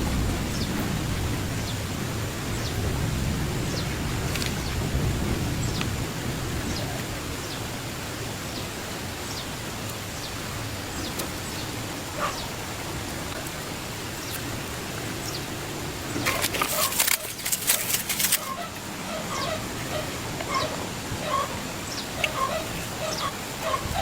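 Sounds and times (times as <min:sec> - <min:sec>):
hissing outdoor background noise: 0:00.0 - 0:24.0.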